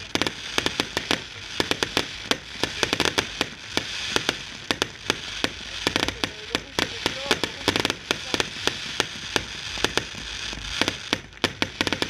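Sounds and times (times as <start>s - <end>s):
fireworks banging: 0.0s - 12.0s
steady hiss: 0.0s - 12.0s.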